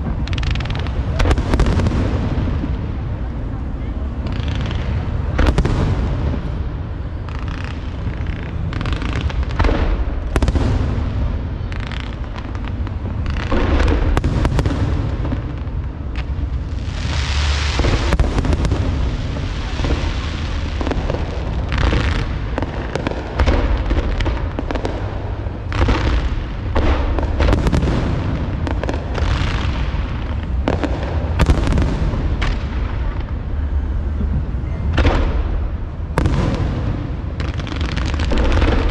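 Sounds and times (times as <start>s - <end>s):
deep fireworks boom: 0.0s - 38.9s
fireworks crackling: 0.0s - 38.9s.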